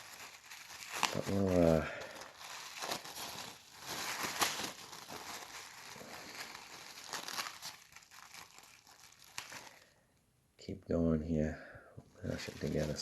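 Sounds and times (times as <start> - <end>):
wrapping crinkling: 0.0 - 10.0, 12.2 - 13.0.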